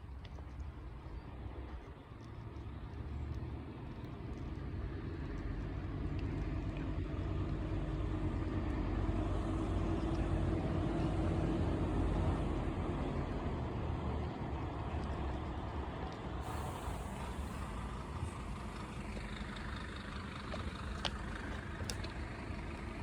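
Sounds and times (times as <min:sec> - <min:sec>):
aircraft engine rumble: 0:00.0 - 0:23.0.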